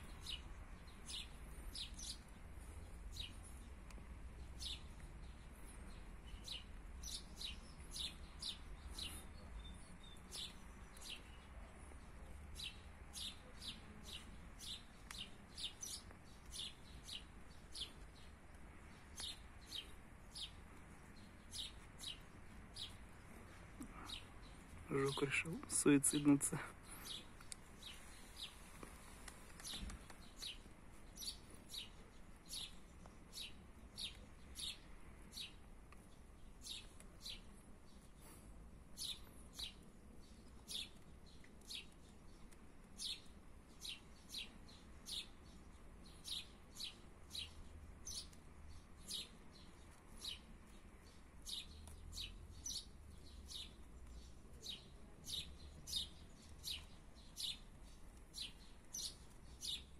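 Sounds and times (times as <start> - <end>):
small bird chirping: 0.0 - 59.9.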